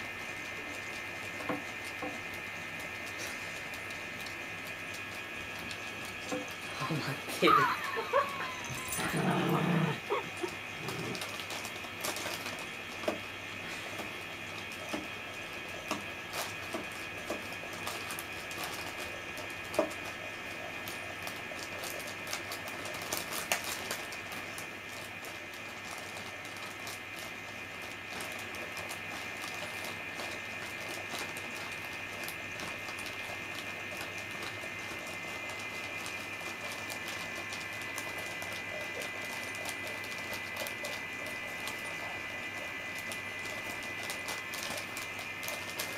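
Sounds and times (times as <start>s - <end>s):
plastic bag crinkling: 0.0s - 45.9s.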